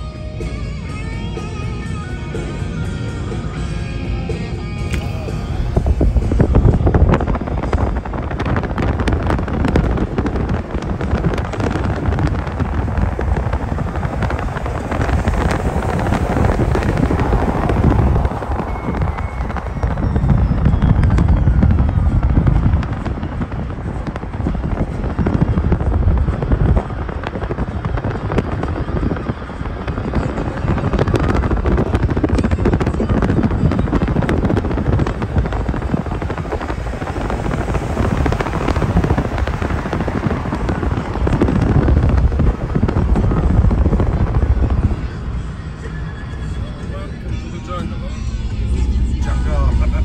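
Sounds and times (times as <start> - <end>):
car road noise: 0.0 - 50.0
wind buffeting microphone: 0.0 - 50.0.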